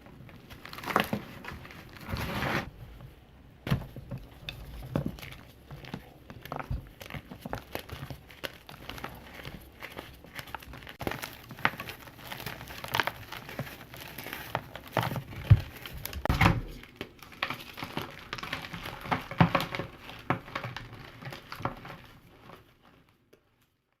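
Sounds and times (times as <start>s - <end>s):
powder blocks crunching by hand: 3.7s - 23.0s.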